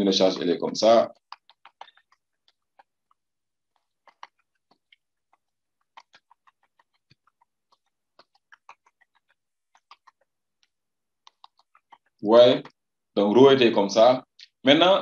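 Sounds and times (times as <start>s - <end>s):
stylus tapping drawing tablet: 0.4s - 12.8s.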